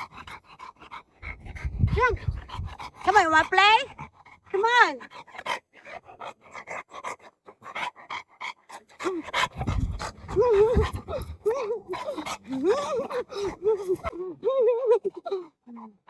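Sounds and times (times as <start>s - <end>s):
dog panting: 0.0s - 14.1s.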